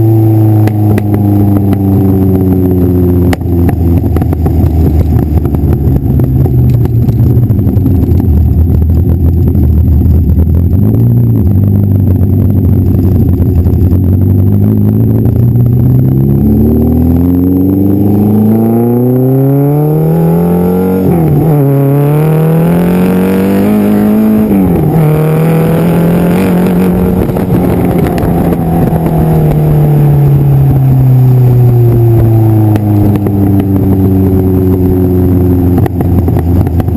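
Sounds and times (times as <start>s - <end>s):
sports car engine accelerating: 0.0s - 36.9s.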